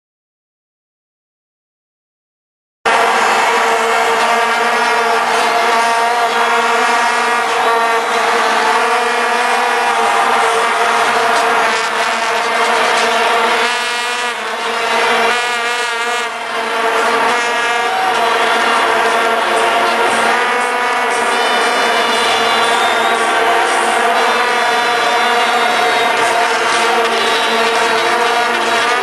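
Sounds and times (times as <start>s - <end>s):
crowd blowing vuvuzelas: 2.9s - 29.0s.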